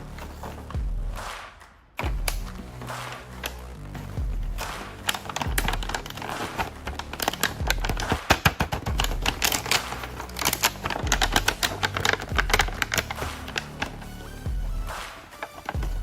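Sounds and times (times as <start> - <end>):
background music with bass beat: 0.0 - 16.0.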